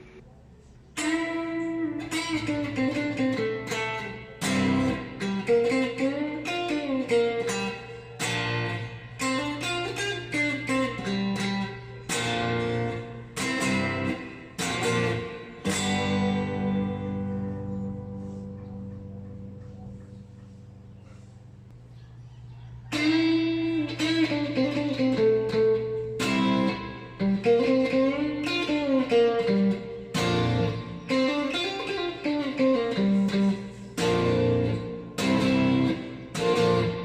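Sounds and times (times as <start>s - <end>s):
clean electric guitar piece: 0.0s - 21.7s, 22.9s - 37.0s.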